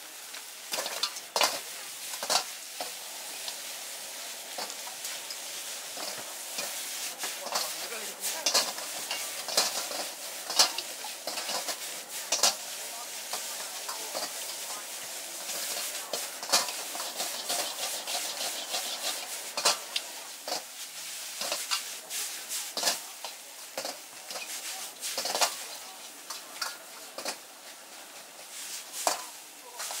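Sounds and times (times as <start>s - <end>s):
noodles sizzling in a wok: 0.0s - 30.0s.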